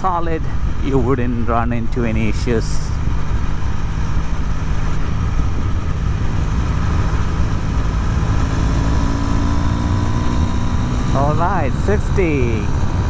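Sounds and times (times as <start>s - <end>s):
motorcycle engine droning: 0.0s - 13.0s
road and wind noise: 0.0s - 13.0s.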